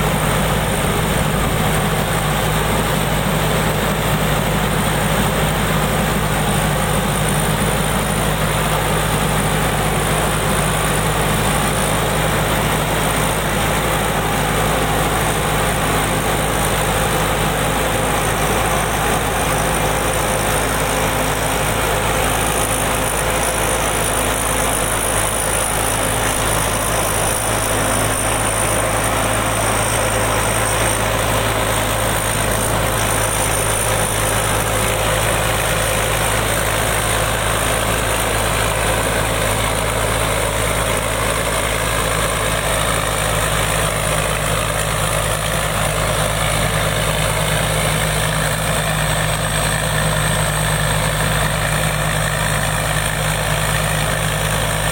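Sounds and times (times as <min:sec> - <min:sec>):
combine harvester engine droning: 0:00.0 - 0:54.9.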